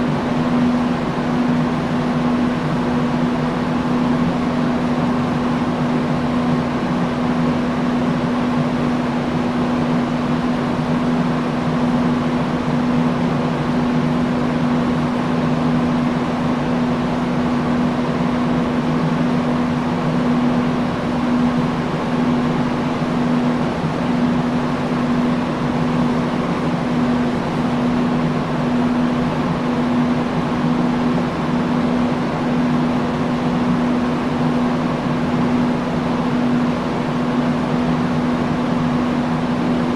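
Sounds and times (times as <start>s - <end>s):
fan air whoosh: 0.0s - 39.9s.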